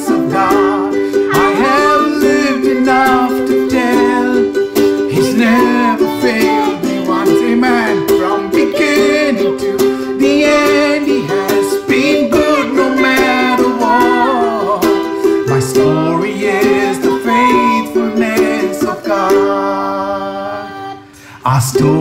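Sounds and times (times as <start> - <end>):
instrumental held chords: 0.0 - 22.0
man and girl singing: 0.0 - 22.0.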